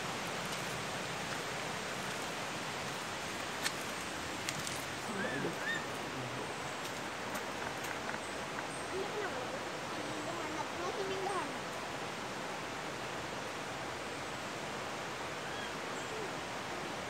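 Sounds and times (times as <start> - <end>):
rain forest hiss: 0.0 - 17.0.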